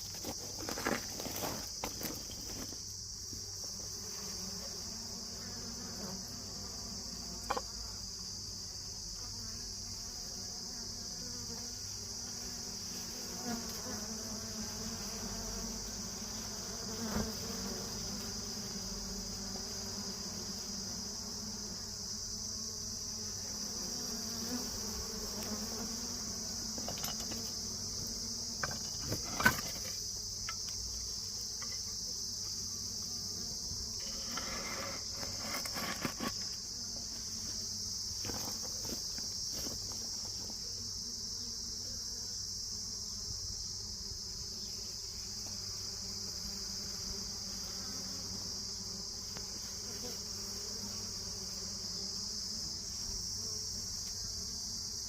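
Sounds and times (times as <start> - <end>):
bees buzzing: 0.0 - 55.0
high-pitched insect trill: 0.0 - 55.0.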